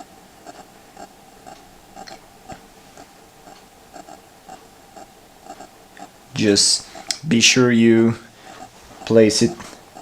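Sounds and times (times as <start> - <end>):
faint mechanical ticking: 0.0 - 10.0.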